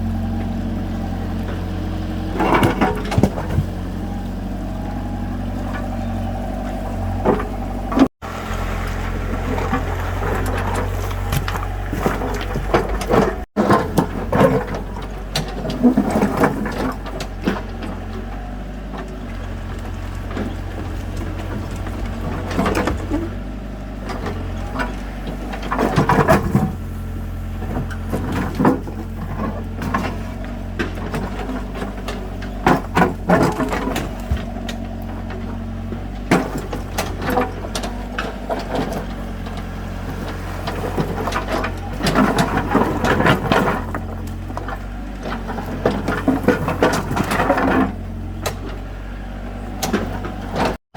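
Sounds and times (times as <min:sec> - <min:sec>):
tractor diesel engine running: 0:00.0 - 0:50.8.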